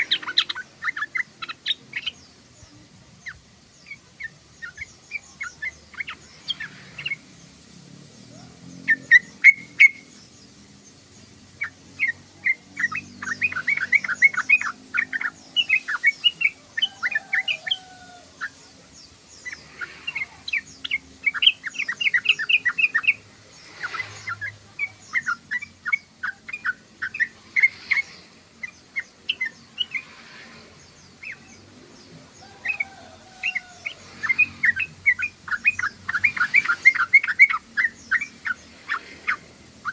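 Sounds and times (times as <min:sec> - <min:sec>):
bird chattering: 0:00.0 - 0:07.2, 0:08.8 - 0:10.4, 0:11.4 - 0:31.6, 0:32.4 - 0:39.9.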